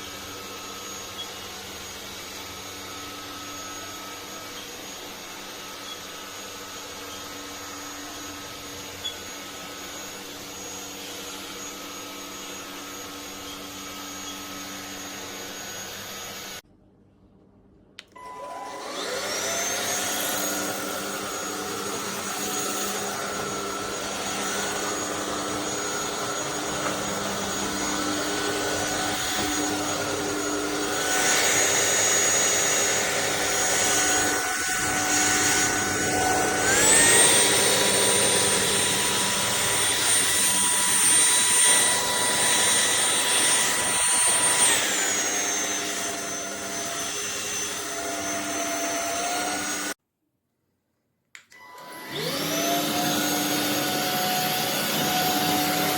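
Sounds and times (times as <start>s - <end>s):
vacuum cleaner whine: 0.0s - 16.6s, 18.0s - 50.0s, 51.4s - 55.9s.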